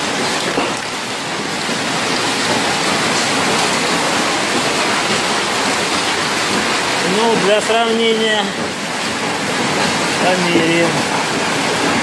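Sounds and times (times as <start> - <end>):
hail and rain pouring down: 0.0 - 12.0.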